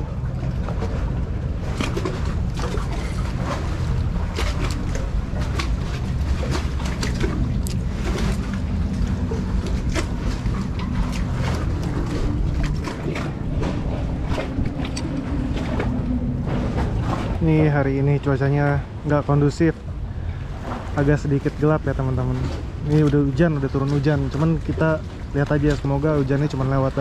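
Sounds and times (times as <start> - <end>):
water lapping against pier: 0.0 - 27.0
wind buffeting microphone: 0.0 - 27.0.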